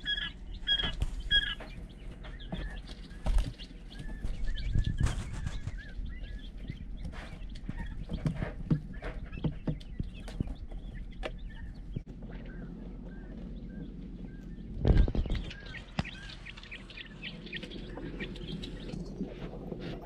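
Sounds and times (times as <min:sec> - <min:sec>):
quail chicks peeping: 0:00.0 - 0:20.0.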